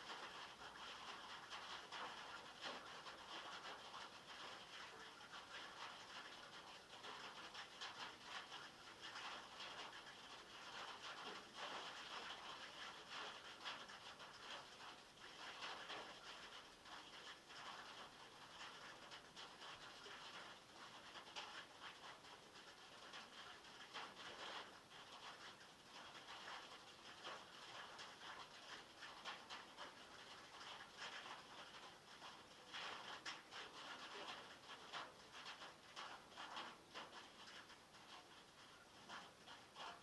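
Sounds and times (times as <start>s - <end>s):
rain on a metal roof: 0.0s - 40.0s.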